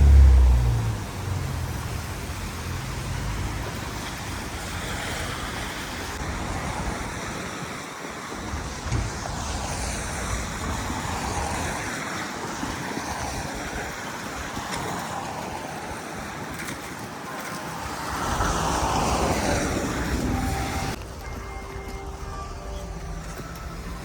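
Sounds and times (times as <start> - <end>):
cars passing on wet road: 0.0 - 24.0.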